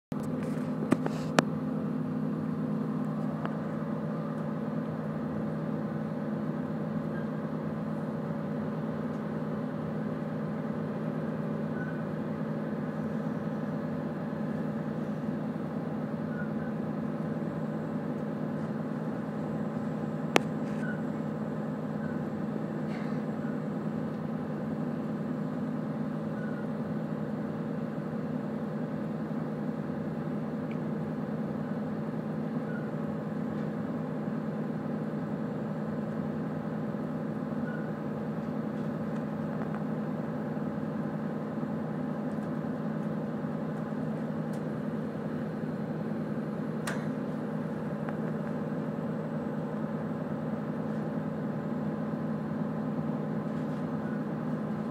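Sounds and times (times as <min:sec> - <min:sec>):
train running rumble: 0:00.1 - 0:54.9.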